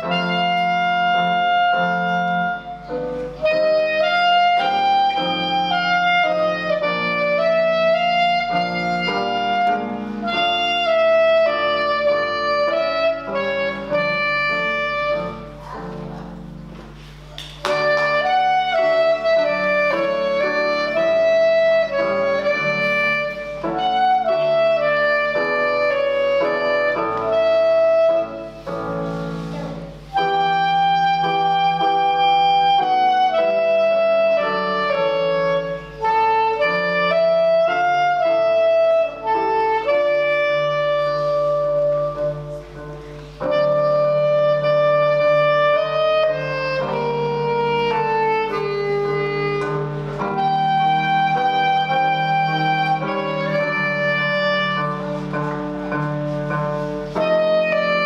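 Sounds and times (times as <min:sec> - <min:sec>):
clarinet melody: 0:00.0 - 0:58.0.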